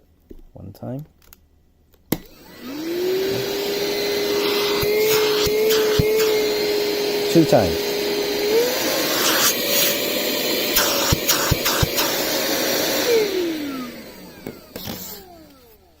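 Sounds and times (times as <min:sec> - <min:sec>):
car vacuum motor whine: 0:02.2 - 0:16.0.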